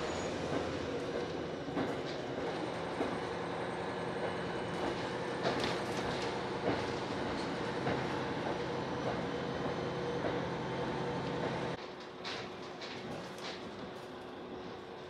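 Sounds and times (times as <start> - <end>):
wheels clicking on track: 0.0 - 14.9
railcar engine drone: 0.0 - 15.0.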